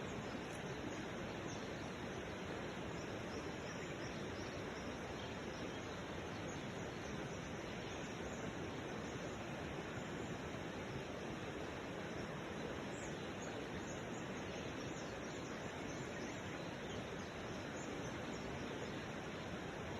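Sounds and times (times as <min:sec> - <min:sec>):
steady outdoor hiss: 0:00.0 - 0:19.9.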